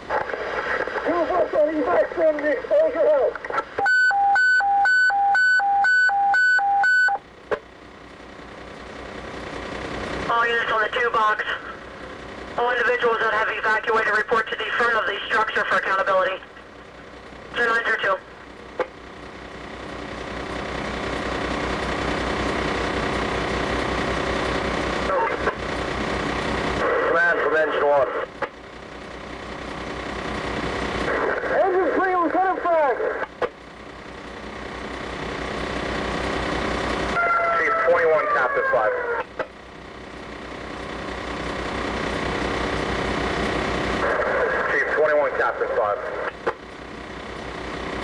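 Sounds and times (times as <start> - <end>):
diesel engine throbbing: 6.6 - 48.0.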